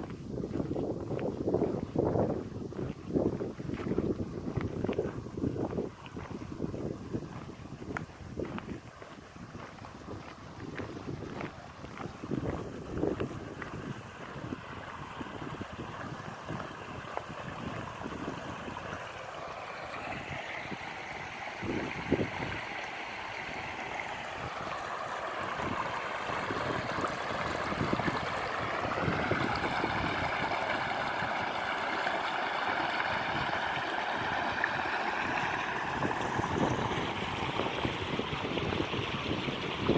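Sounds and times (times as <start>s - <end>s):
stream babbling and gurgling: 0.0s - 39.9s.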